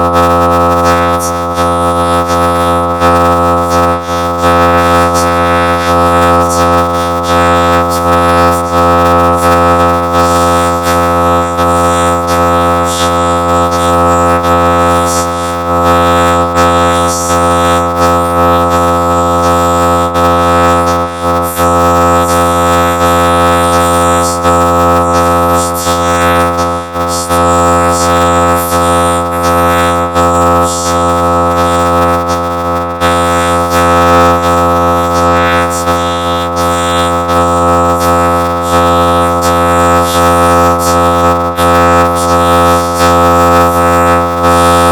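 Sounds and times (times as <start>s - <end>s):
synthesizer-like drone: 0.0s - 44.9s.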